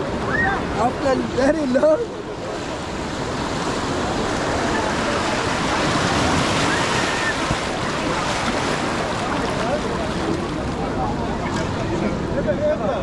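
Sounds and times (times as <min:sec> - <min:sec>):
faint crowd voices: 0:00.0 - 0:13.0
surf washing onto beach: 0:00.0 - 0:13.0.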